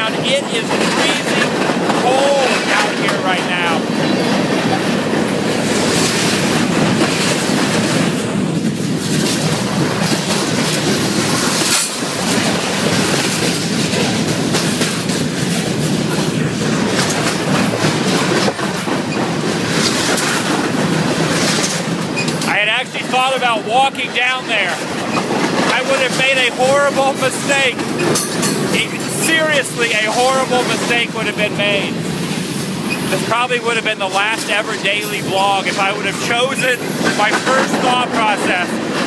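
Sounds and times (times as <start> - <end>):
freight train passing: 0.0 - 39.0
wheels clacking over rail joints: 0.0 - 39.0.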